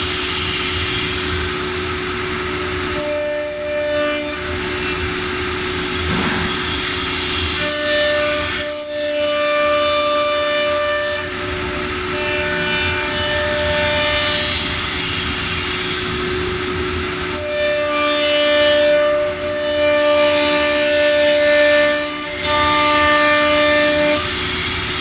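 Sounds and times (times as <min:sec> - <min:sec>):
woodworking machine whine: 0:00.0 - 0:25.0.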